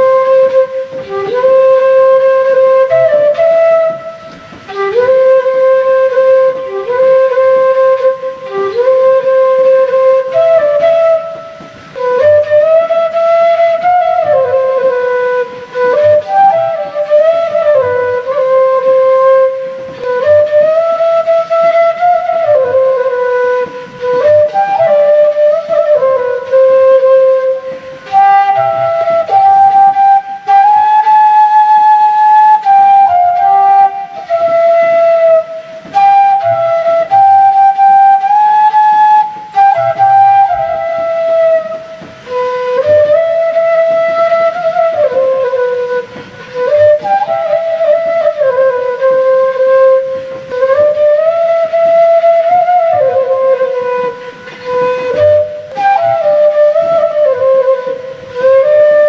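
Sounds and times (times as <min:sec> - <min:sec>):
bamboo flute melody: 0:00.0 - 0:59.0.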